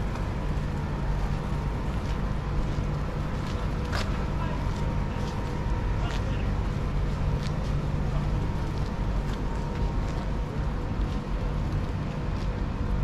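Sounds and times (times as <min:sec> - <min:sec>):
street noise rumble: 0:00.0 - 0:13.0.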